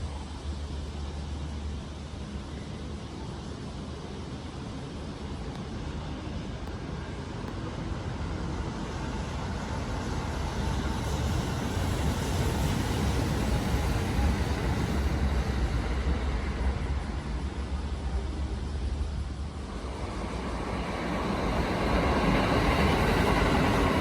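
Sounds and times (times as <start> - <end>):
electric train running past: 0.0 - 24.0.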